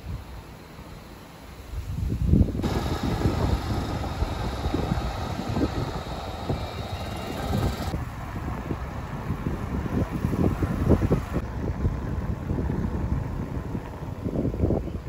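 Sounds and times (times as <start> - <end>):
road and traffic hiss: 0.0 - 15.0
wind rumbling on microphone: 1.7 - 15.0.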